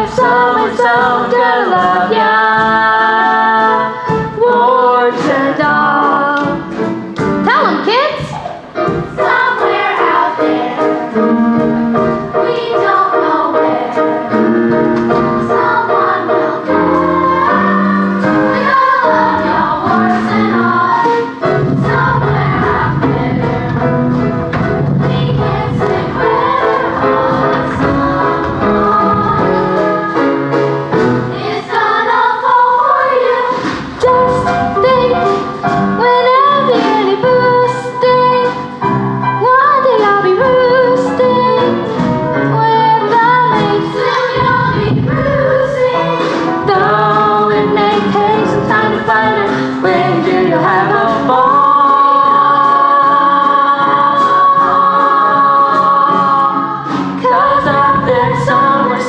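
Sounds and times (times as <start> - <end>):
people singing with accompaniment: 0.0 - 7.6, 8.3 - 59.0.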